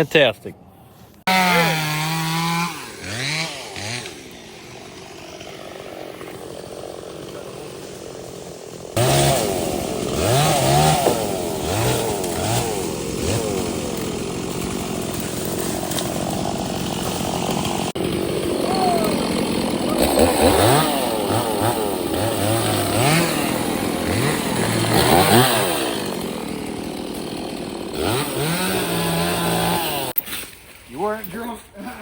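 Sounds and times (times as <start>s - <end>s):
two-stroke chainsaw revving: 1.2s - 30.2s.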